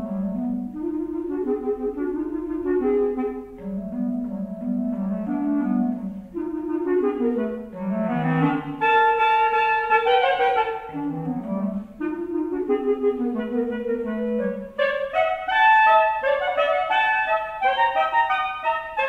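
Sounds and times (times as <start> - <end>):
clarinet duet: 0.0 - 19.0.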